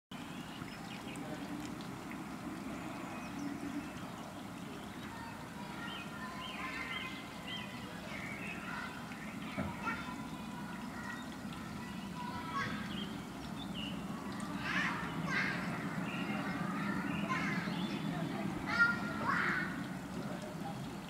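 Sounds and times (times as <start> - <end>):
water trickling over stones: 0.1 - 21.0.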